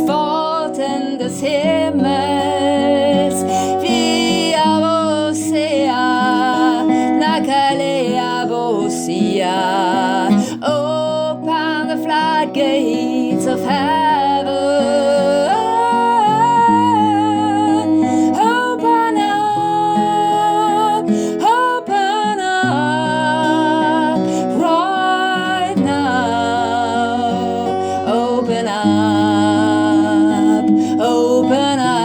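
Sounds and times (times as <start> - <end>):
acoustic guitar: 0.0 - 32.0
person singing slow melody: 0.0 - 32.0.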